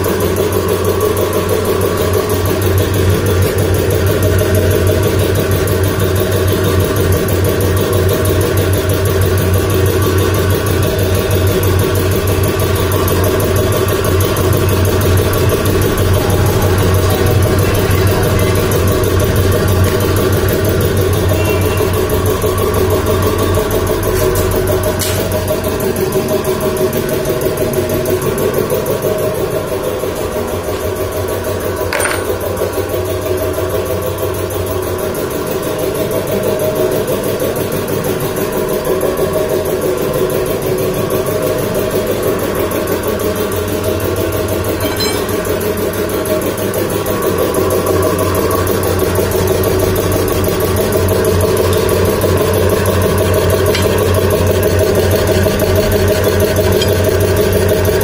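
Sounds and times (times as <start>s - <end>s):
piston air compressor running: 0.0s - 58.0s.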